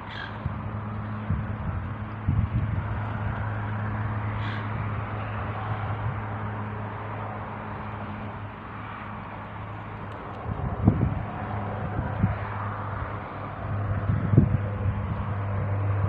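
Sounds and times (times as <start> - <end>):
low motor hum: 0.0 - 16.0
outdoor rushing noise: 0.0 - 16.0.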